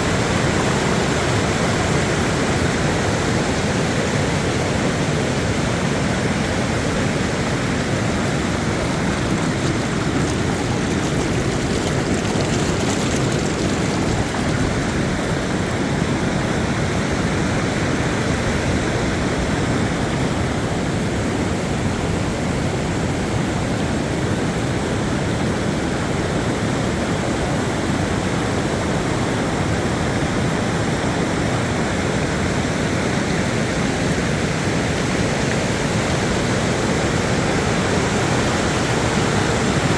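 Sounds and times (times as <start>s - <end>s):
floodwater rushing in a creek: 0.0s - 39.9s.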